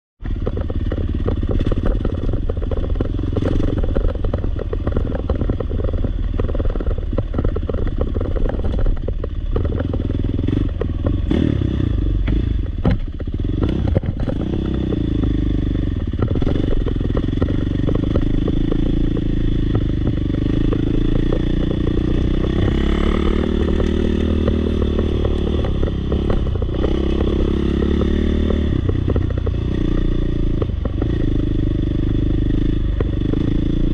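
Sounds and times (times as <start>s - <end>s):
bike clattering and scraping: 0.3s - 33.9s
dirt bike engine revving: 0.8s - 4.5s, 9.4s - 12.7s, 13.3s - 33.9s.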